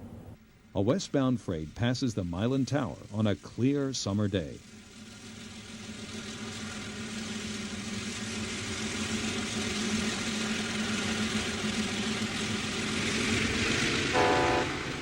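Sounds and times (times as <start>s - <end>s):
diesel locomotive engines: 0.0s - 15.0s.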